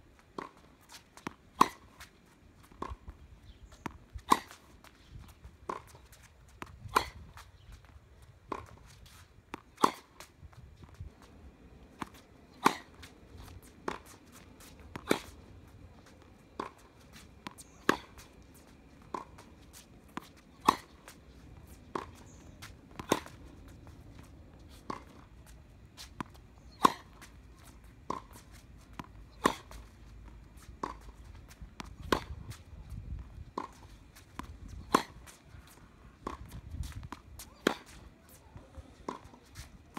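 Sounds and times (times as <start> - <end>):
racket hitting tennis ball: 0.4 - 2.1, 2.7 - 7.6, 8.4 - 39.9
tennis ball bouncing: 0.4 - 39.9.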